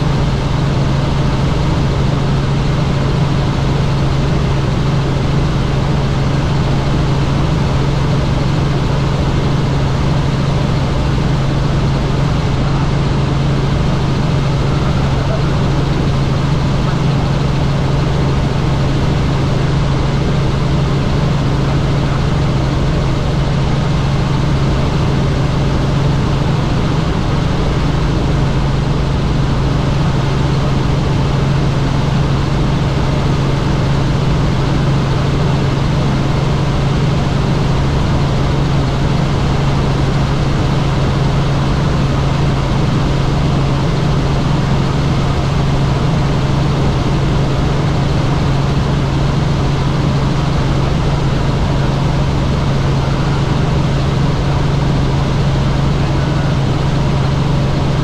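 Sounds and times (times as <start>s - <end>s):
helicopter engine and rotor noise: 0.0s - 58.0s
low hum: 0.0s - 58.0s.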